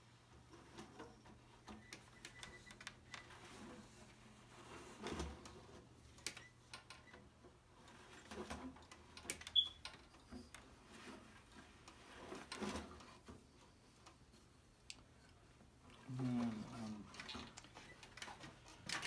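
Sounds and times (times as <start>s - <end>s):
loom clicks and rustles: 0.2s - 19.0s.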